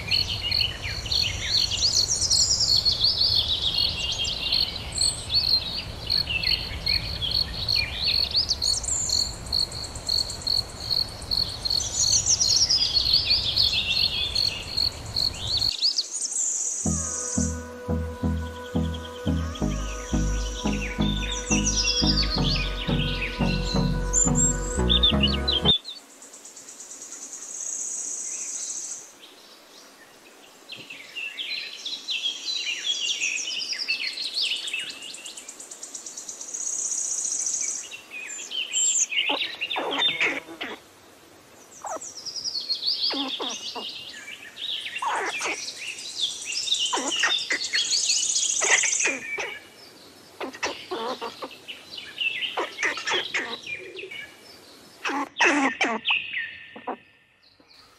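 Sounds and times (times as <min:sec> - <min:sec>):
songbirds singing and chirping: 0:00.0 - 0:26.7, 0:27.6 - 0:40.8, 0:41.5 - 0:57.9.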